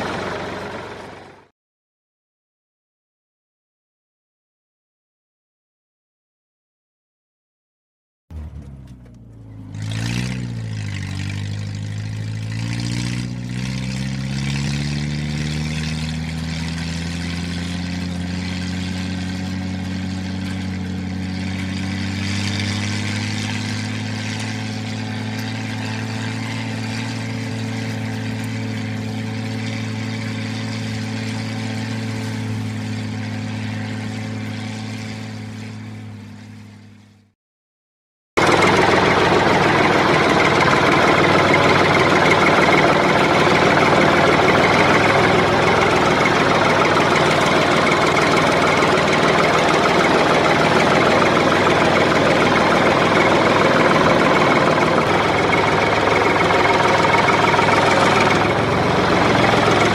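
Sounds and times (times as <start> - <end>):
tractor engine running: 0.0 - 1.5, 8.3 - 37.3, 38.4 - 59.9.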